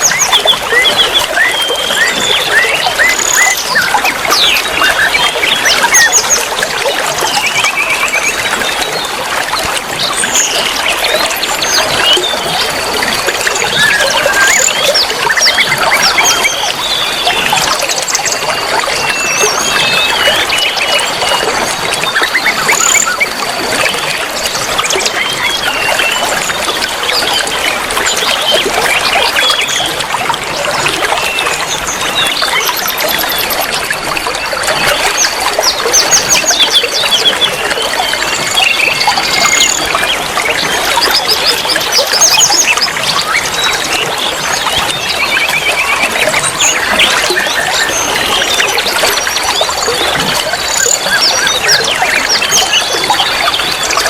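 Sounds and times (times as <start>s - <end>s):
running water: 0.0s - 54.0s
songbirds chirping and whistling: 0.0s - 54.0s.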